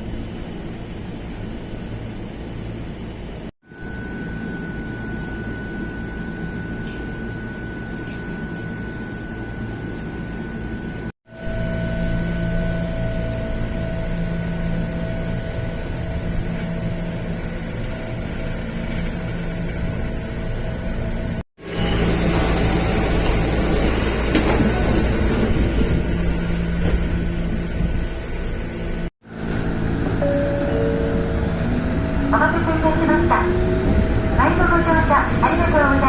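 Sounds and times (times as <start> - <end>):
train hum and rumble: 0.0 - 36.0
high whine: 3.6 - 36.0.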